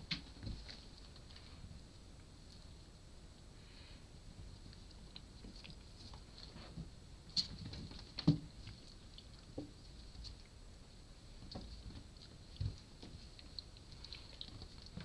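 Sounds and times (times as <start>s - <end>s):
kittens scuffling: 0.0s - 2.7s, 4.3s - 10.6s, 11.3s - 15.0s.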